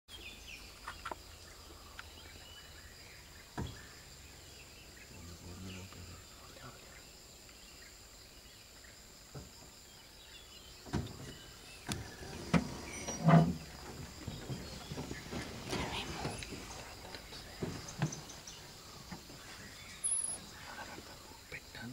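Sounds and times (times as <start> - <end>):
faint steady hiss: 0.1 - 21.9.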